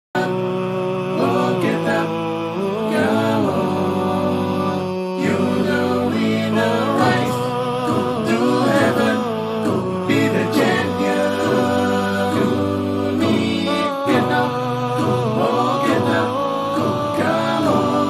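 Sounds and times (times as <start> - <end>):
wordless sung melody: 0.2 - 18.0.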